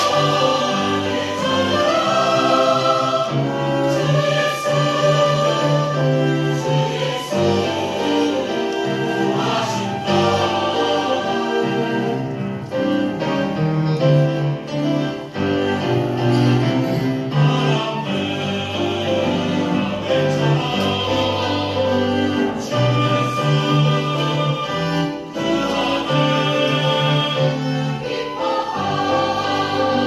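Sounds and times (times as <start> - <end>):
church choir singing: 0.0 - 30.0.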